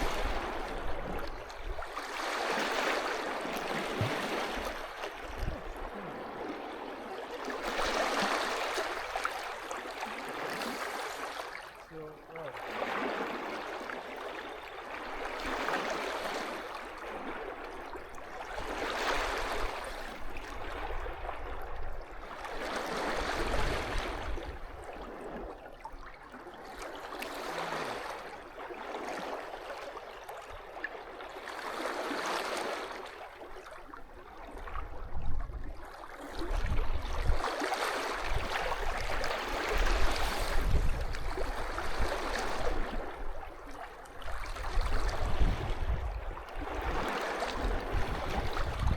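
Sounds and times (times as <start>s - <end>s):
sea waves washing onto shore: 0.0s - 25.4s, 26.7s - 34.8s, 35.8s - 48.9s.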